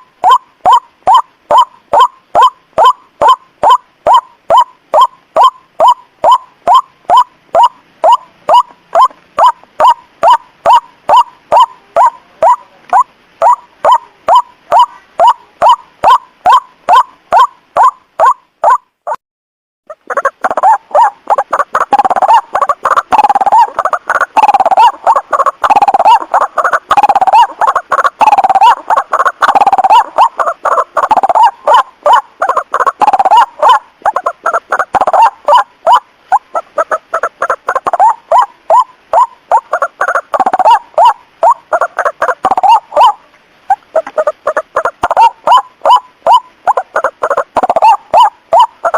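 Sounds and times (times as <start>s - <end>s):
waterhen calls: 0.0s - 19.2s, 19.9s - 48.9s.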